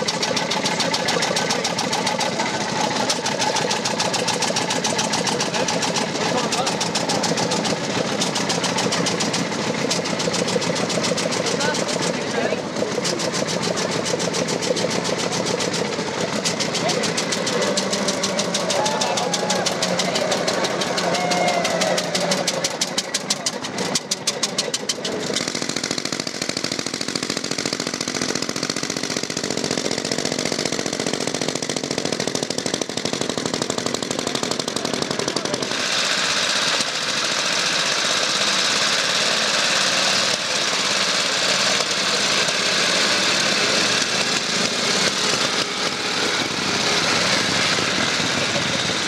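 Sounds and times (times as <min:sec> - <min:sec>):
motorcycle engine firing rapidly: 0:00.0 - 0:49.0
motorcycle engine riding away: 0:00.0 - 0:49.0.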